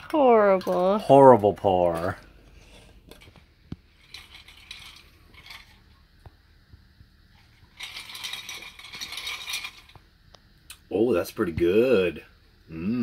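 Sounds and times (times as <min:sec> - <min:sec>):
crackling rustle: 0:00.0 - 0:11.4.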